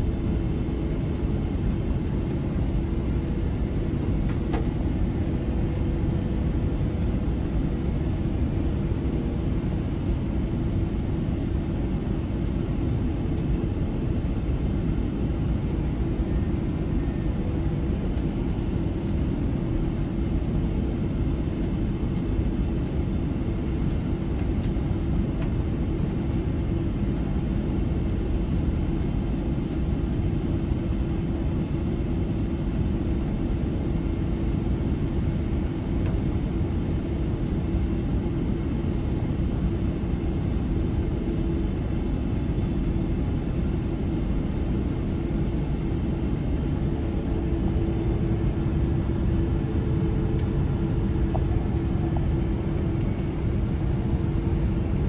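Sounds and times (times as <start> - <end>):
airliner cabin rumble: 0.0 - 55.0
constant hum: 0.0 - 55.0.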